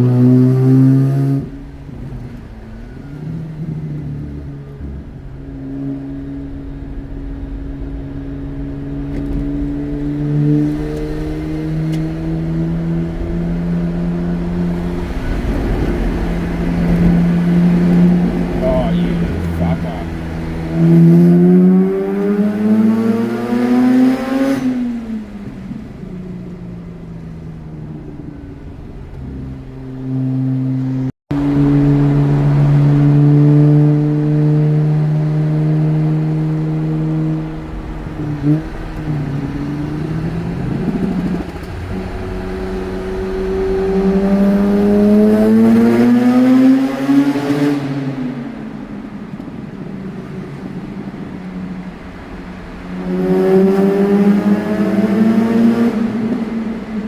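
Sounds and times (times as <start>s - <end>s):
rotary engine accelerating: 0.0s - 57.0s.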